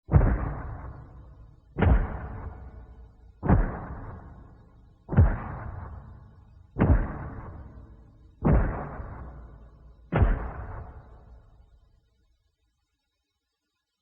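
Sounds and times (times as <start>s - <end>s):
heavy booming monster stomps: 0.1s - 11.4s.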